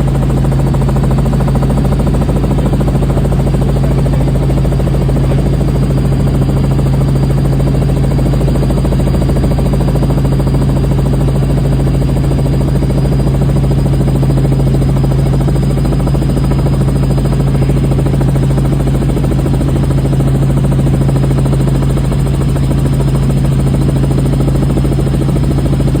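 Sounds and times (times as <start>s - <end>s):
helicopter cabin drone: 0.0s - 26.0s.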